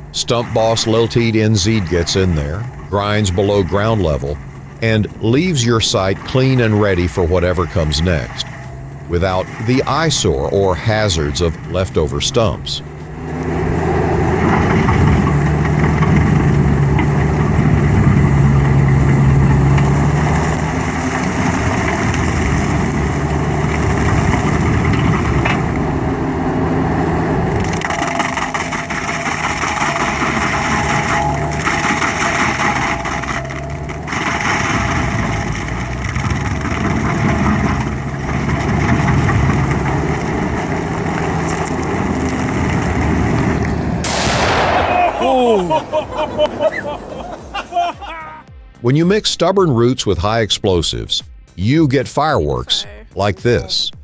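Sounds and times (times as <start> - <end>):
stump grinder engine droning: 0.0 - 47.9.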